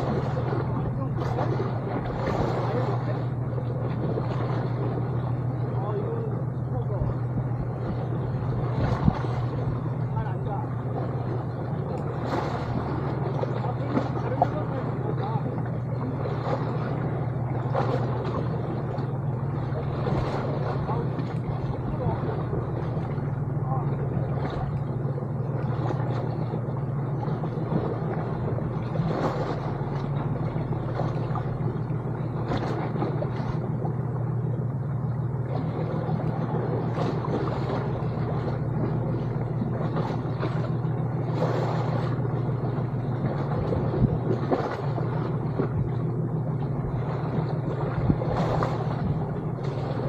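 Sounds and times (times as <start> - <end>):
boat engine humming: 0.0 - 50.0
water crackles and clicks: 0.0 - 50.0.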